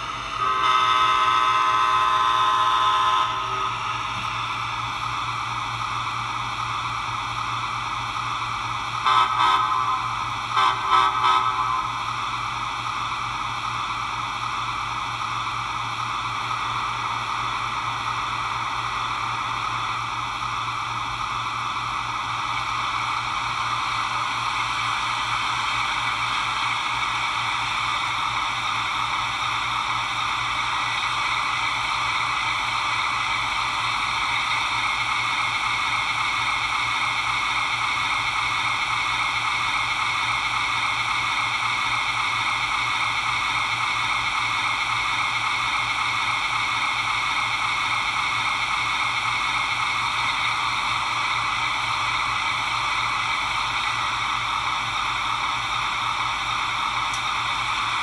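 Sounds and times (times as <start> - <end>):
locomotive running hiss and hum: 0.0 - 58.0.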